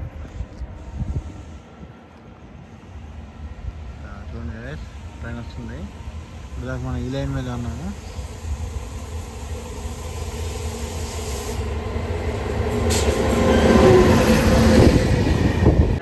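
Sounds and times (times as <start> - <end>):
steady train whine: 0.0 - 16.0
train rumbling and rattling past: 0.0 - 16.0.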